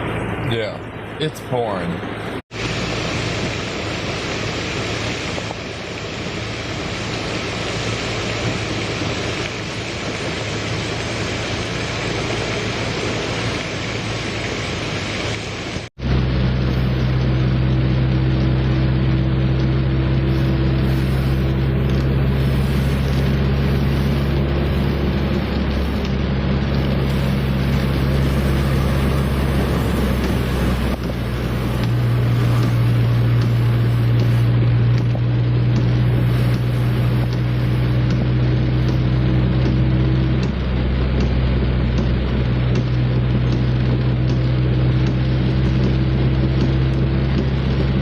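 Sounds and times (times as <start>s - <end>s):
car engine hum: 0.0s - 48.0s
road noise: 0.0s - 48.0s
heavy rain on a car: 2.5s - 48.0s.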